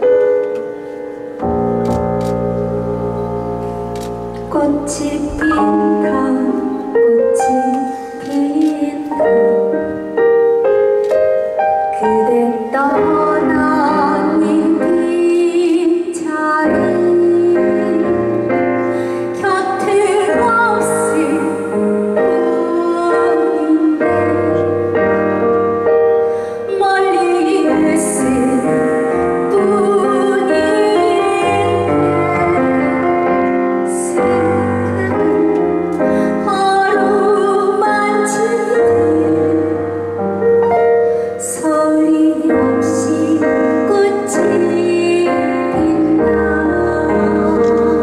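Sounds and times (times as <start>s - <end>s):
piano accompaniment: 0.0s - 48.0s
woman singing into microphone: 4.4s - 10.0s, 11.9s - 24.9s, 26.4s - 40.0s, 41.4s - 48.0s.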